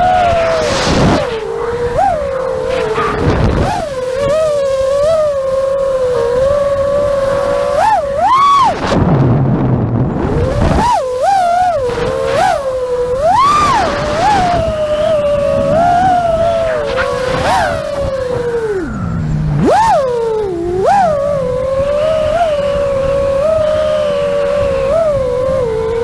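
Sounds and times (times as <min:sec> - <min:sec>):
drone propellers whining: 0:00.0 - 0:26.0
wind buffeting rumble: 0:00.0 - 0:26.0.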